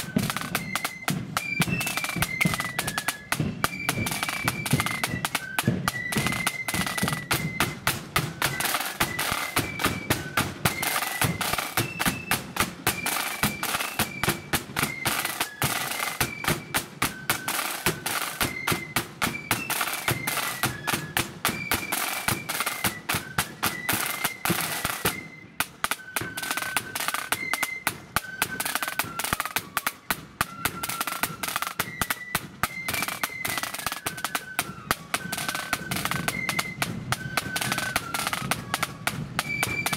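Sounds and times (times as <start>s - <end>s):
flute melody: 0.0s - 39.9s
rapid snare drum beating: 0.0s - 39.9s.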